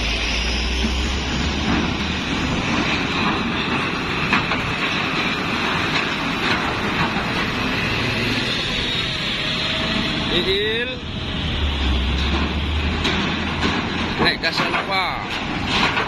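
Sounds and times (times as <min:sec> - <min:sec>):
bus engine rumble: 0:00.0 - 0:16.0
road noise: 0:00.0 - 0:16.0.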